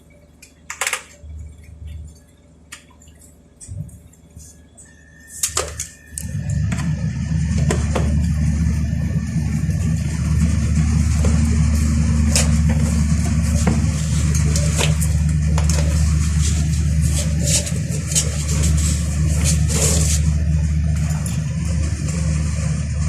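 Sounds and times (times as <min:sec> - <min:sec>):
low machinery hum: 0:00.0 - 0:23.0.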